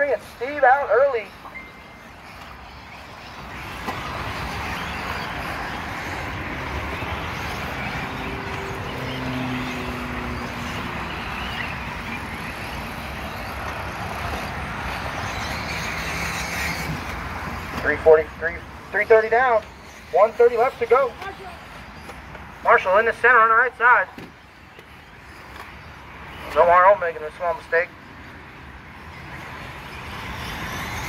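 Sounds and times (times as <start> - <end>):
electric rc cars racing: 0.0 - 31.0.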